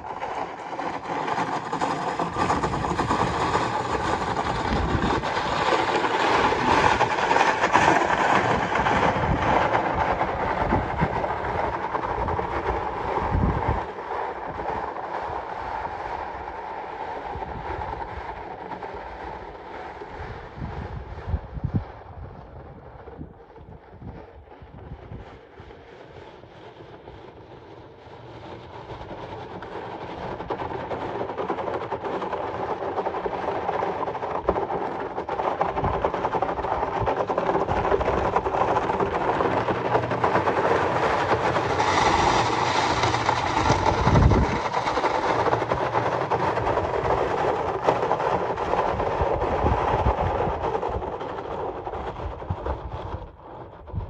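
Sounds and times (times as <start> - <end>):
steady rumbling noise: 0.0 - 54.0.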